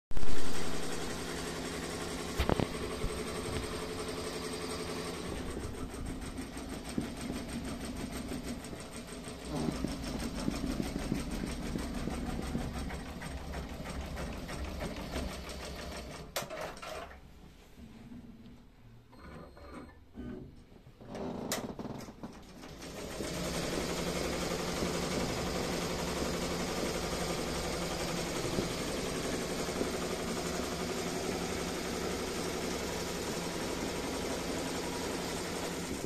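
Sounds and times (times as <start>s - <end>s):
embroidery machine stitching: 0.2s - 17.2s, 21.0s - 36.0s.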